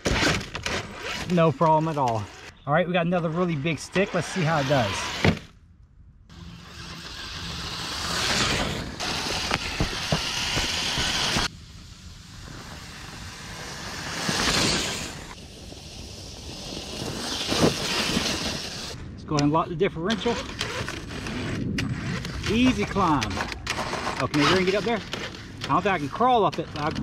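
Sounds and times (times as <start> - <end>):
electric motor and gears whirring: 0.0 - 5.6, 6.2 - 27.0
tires and chassis clicks and scrapes: 0.0 - 27.0.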